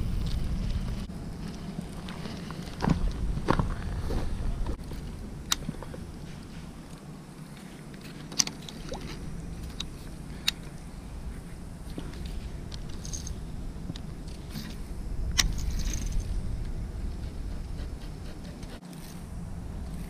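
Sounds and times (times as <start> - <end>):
wind on microphone: 0.0 - 7.7, 8.7 - 20.0.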